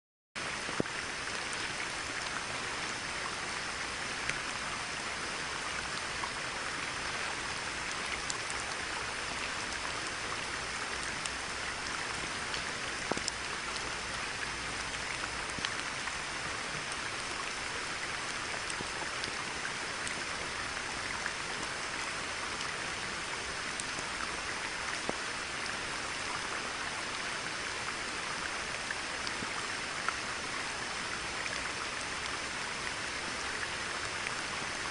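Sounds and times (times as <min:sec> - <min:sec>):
rain falling on a pond: 0:00.4 - 0:34.9.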